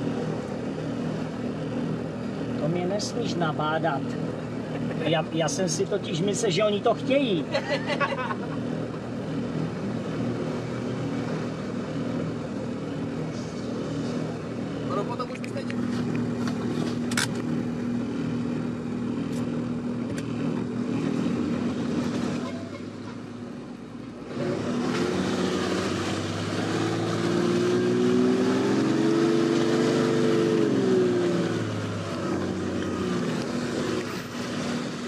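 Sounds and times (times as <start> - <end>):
vehicle engine revving: 0.0 - 35.0.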